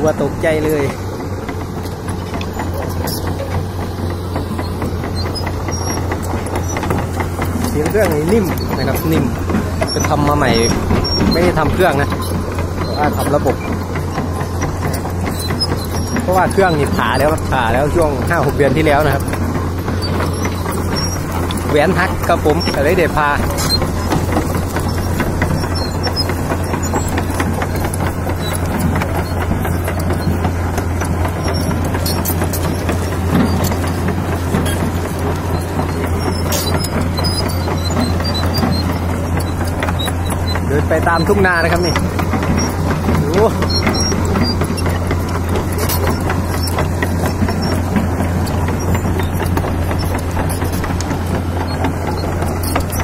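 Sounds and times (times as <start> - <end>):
excavator diesel engine humming: 0.0 - 53.0
steel tracks clanking: 0.0 - 53.0.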